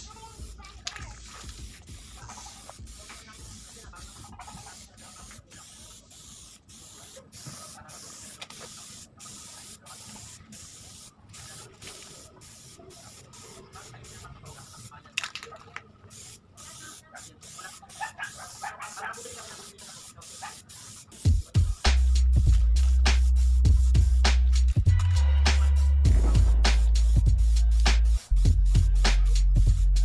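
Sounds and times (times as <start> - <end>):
aerosol spray can hissing: 0.0 - 24.8, 25.6 - 30.0.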